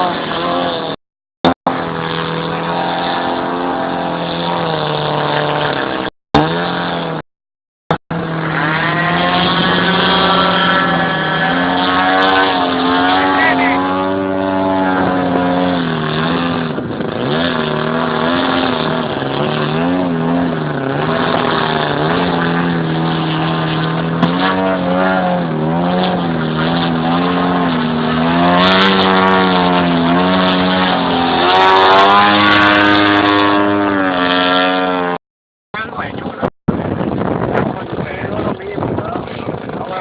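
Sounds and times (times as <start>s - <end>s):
model plane engine running loudly: 1.7s - 7.2s, 8.2s - 35.2s.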